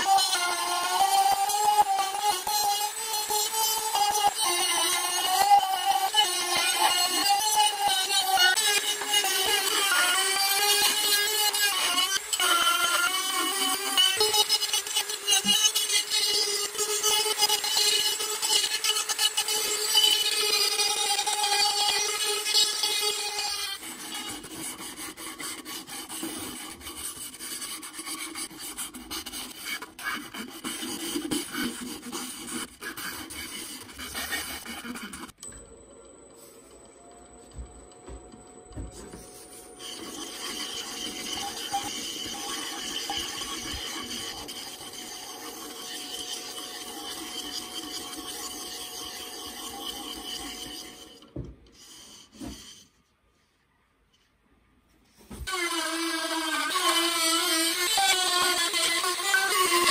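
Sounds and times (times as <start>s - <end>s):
sandpaper rasping on wood: 0.0s - 35.4s, 39.1s - 51.2s, 55.4s - 59.9s.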